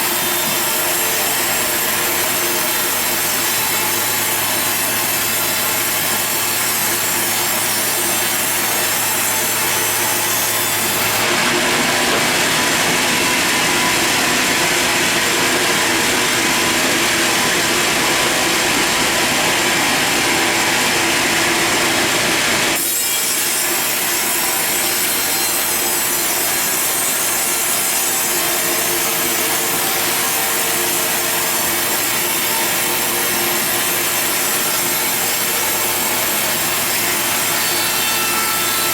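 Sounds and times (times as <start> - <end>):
saw cutting through log: 0.0 - 38.9
sawmill saw running: 0.0 - 38.9.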